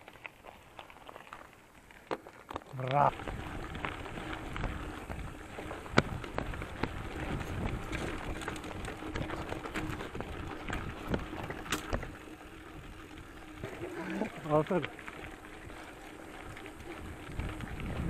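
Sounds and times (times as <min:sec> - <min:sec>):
bike rattling over bumps: 0:00.0 - 0:18.0
bike tyres crunching on gravel: 0:00.0 - 0:18.0.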